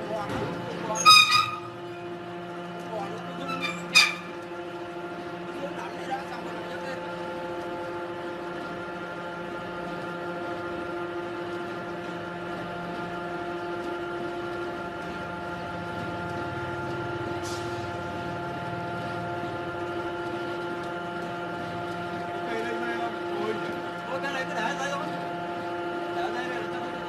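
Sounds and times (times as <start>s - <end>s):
motor running steadily: 0.0s - 27.0s.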